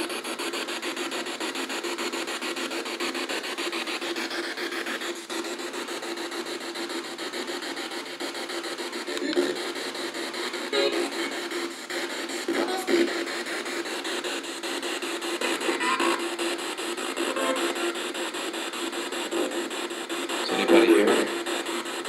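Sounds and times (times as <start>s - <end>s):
pulsing radio static: 0.0s - 22.0s.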